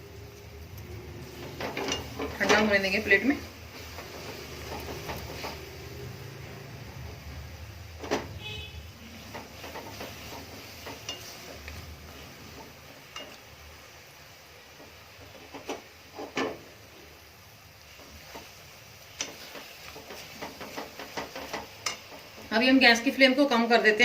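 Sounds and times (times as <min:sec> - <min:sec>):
spoon stirring and scraping pan: 0:00.2 - 0:23.3.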